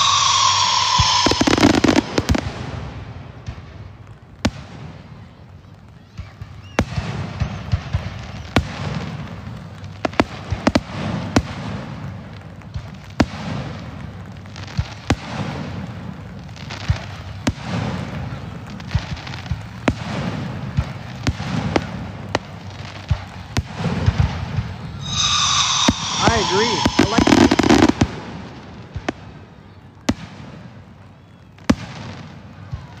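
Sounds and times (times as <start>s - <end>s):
fireworks bangs and pops: 0.0s - 33.0s
rumble and crackle of fireworks: 0.0s - 33.0s.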